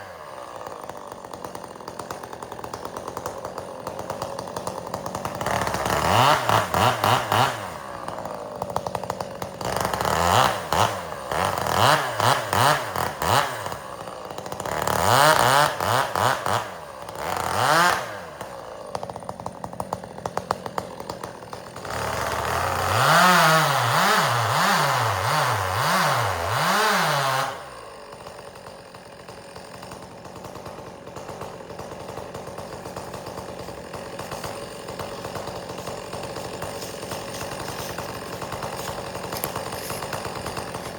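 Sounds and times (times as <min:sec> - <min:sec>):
chainsaw idling: 0:00.0 - 0:40.9
chainsaw revving and cutting: 0:00.0 - 0:40.9.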